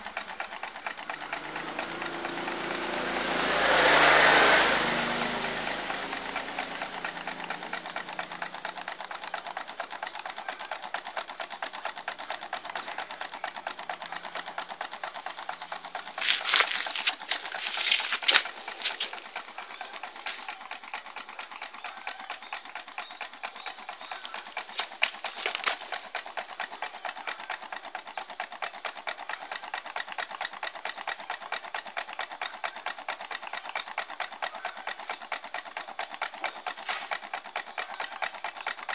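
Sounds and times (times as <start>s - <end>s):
stirling engine ticking: 0.0s - 38.9s.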